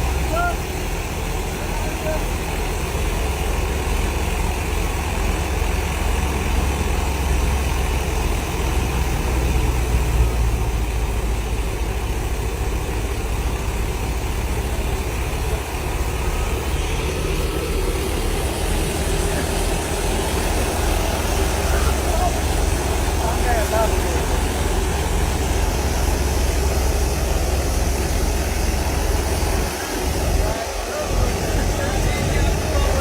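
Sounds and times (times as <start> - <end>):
farm machinery engine droning: 0.0 - 33.0.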